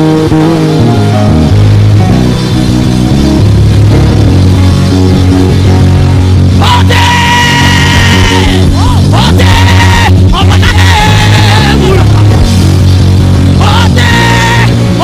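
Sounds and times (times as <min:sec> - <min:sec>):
worship band music: 0:00.0 - 0:15.0.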